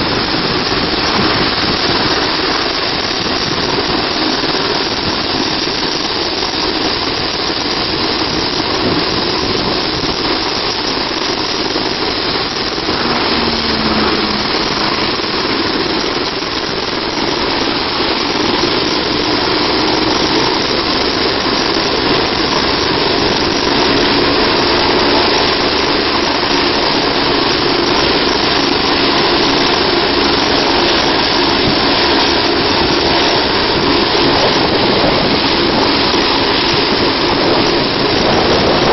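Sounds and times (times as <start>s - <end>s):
helicopter turbine and rotor noise: 0.0s - 38.9s.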